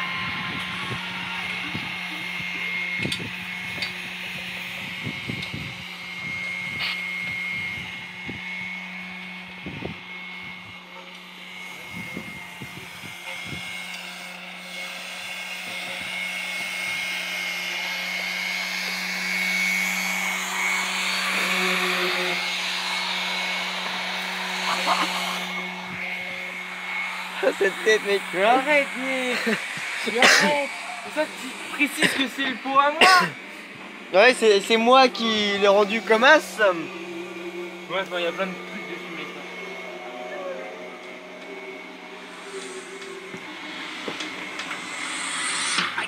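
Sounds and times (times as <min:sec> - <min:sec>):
small electric motor humming: 0:00.0 - 0:46.0.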